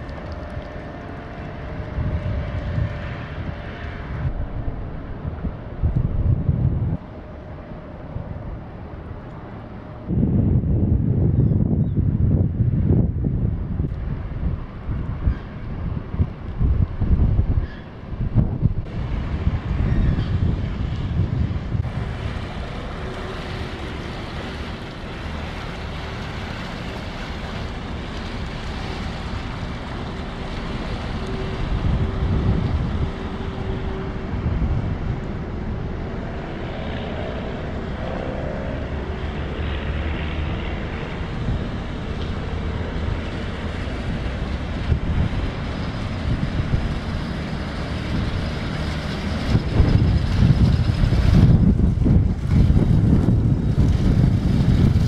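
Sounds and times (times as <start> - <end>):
ship diesel engine droning: 0.0 - 55.0
wind buffeting microphone: 0.0 - 55.0.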